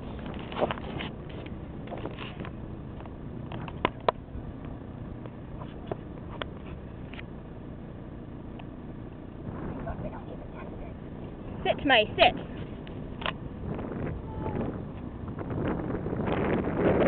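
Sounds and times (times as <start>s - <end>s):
wind rumble on microphone: 0.0s - 7.3s, 9.3s - 17.0s.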